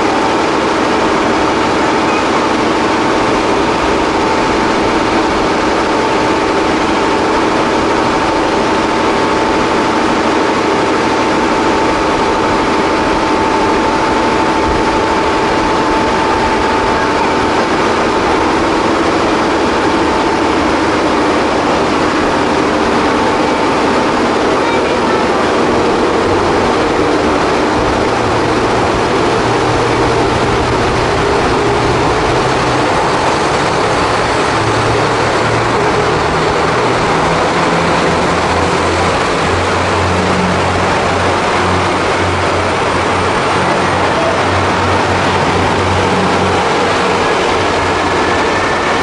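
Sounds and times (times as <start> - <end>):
train rumble: 0.0 - 49.0
whining hum: 0.0 - 49.0.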